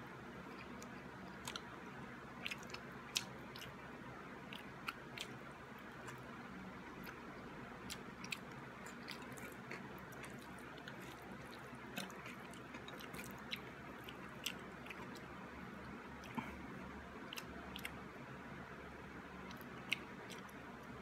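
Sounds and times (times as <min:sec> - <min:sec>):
steady low hum: 0:00.0 - 0:21.0
person chewing food: 0:00.4 - 0:18.2, 0:19.4 - 0:21.0.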